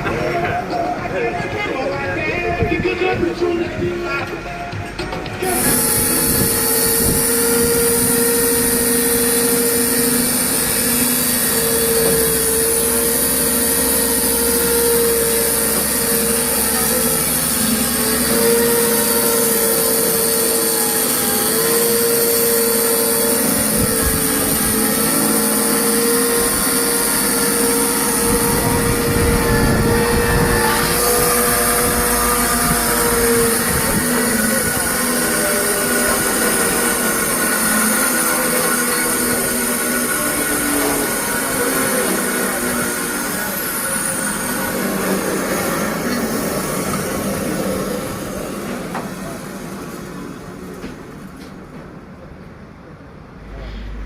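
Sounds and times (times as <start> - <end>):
band saw whining: 0.0 - 50.9.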